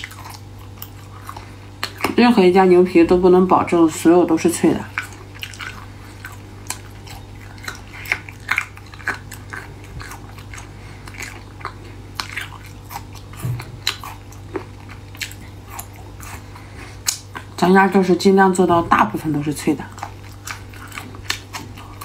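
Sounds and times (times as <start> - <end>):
wet chewing sounds: 0.0 - 22.0.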